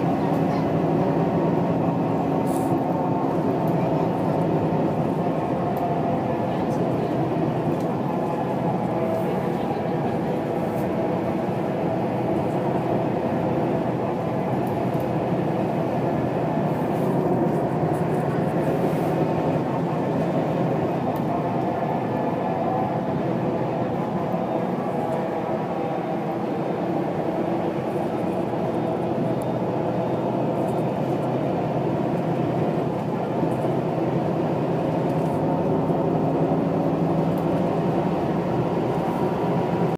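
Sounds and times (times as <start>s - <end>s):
bus engine and tyre rumble: 0.0s - 39.9s.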